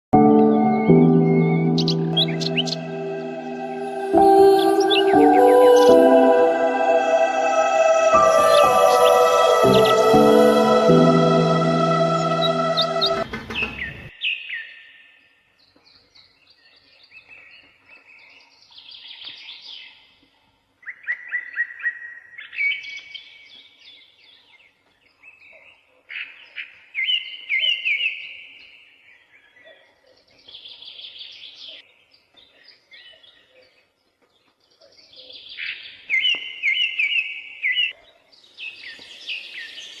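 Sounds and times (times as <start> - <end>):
songbirds chirping and trilling: 0.2 - 20.3, 20.9 - 40.0.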